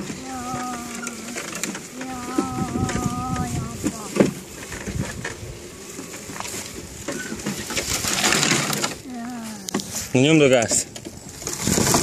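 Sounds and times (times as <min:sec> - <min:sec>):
dry grass rustling and crackling: 0:00.0 - 0:12.0.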